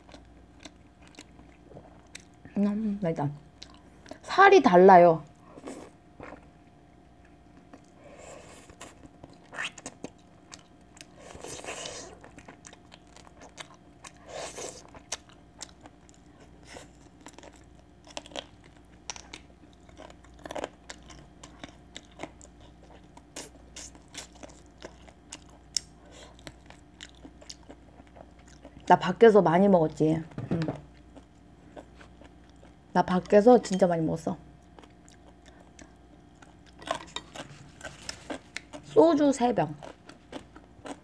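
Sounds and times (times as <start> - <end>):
person chewing meat: 0.0 - 2.4, 3.5 - 4.2, 5.6 - 6.6, 7.2 - 28.8, 30.9 - 32.9, 34.6 - 38.9, 39.8 - 41.0.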